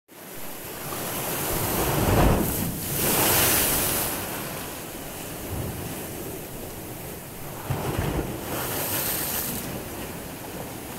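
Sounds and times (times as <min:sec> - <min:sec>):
sea waves breaking on shore: 0:00.1 - 0:10.9.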